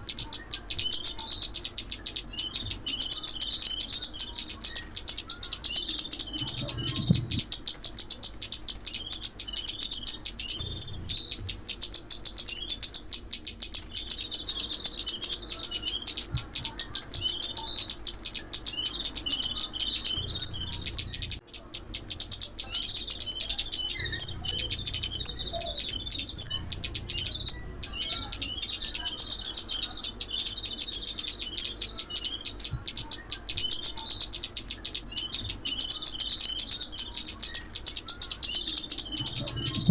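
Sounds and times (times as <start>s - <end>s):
bird chips and twittering: 0.0s - 39.9s
thin held bird whistle: 0.0s - 39.9s.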